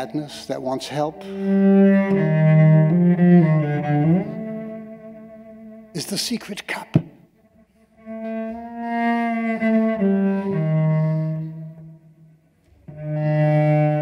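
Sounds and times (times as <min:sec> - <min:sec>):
bowed cello: 0:00.0 - 0:06.4, 0:07.3 - 0:14.0.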